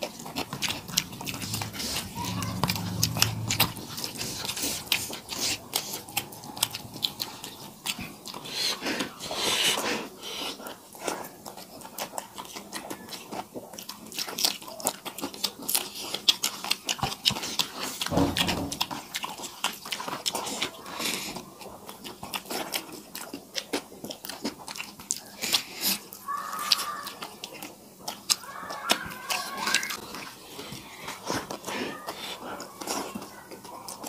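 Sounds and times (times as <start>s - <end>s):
people chewing and biting: 0.0s - 34.0s.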